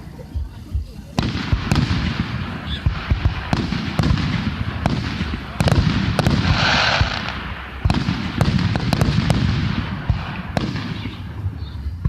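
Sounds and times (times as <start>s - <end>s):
fireworks crackling hiss: 0.0s - 12.0s
fireworks sharp reports: 0.0s - 12.0s.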